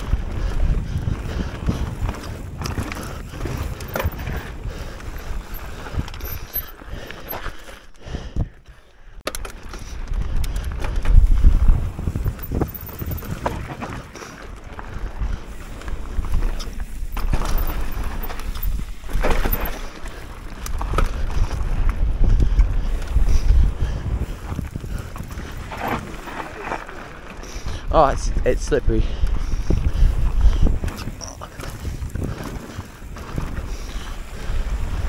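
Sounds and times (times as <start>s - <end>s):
tyres rumbling on gravel: 0.0s - 7.6s, 9.6s - 35.0s
clicks and knocks from bike: 0.0s - 7.8s, 9.2s - 27.8s, 29.2s - 34.3s
wind buffeting microphone: 0.0s - 8.8s, 9.6s - 35.0s.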